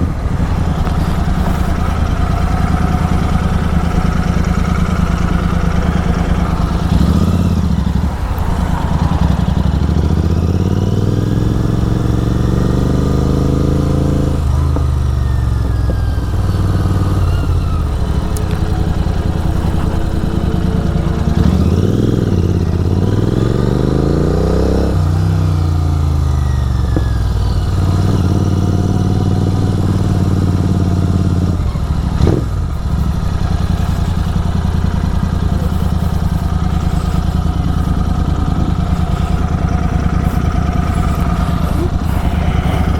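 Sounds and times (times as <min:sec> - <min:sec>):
motorcycle engine at speed: 0:00.0 - 0:42.9.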